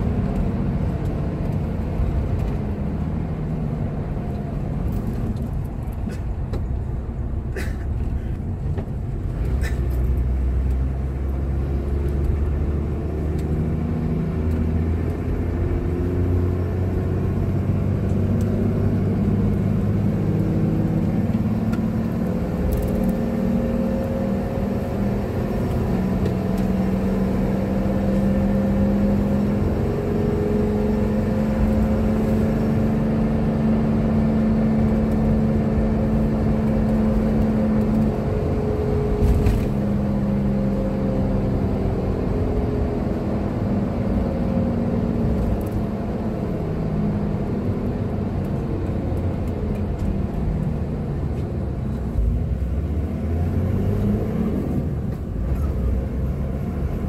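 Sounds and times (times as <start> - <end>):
engine and road noise: 0.0 - 57.0.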